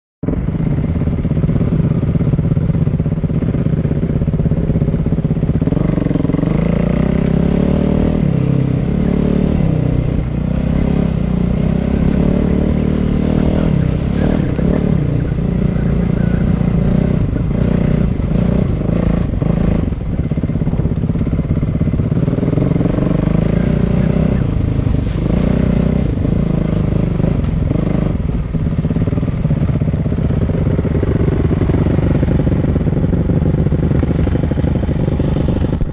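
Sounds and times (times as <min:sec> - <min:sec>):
motorcycle engine revving: 0:00.2 - 0:35.9.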